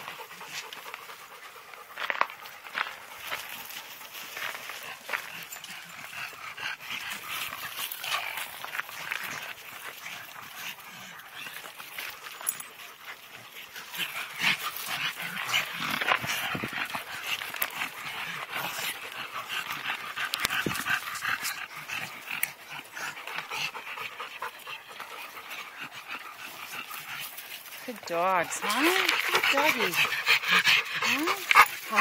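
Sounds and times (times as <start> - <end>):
dogs panting: 0.0 - 32.0.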